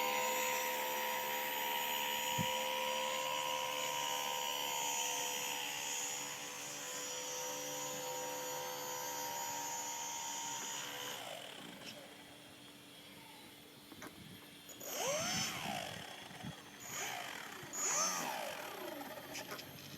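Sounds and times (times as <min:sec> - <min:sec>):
electric motor whining: 0:00.0 - 0:12.3, 0:14.7 - 0:19.9.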